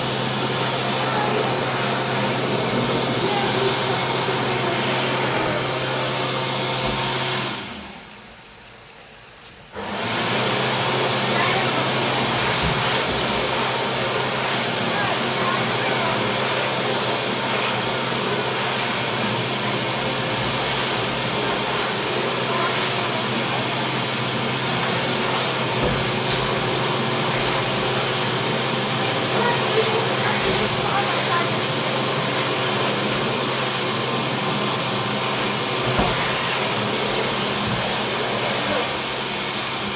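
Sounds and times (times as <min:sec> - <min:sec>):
electric hand dryer running: 0:00.0 - 0:39.9
ventilation fan rushing air: 0:00.0 - 0:39.9.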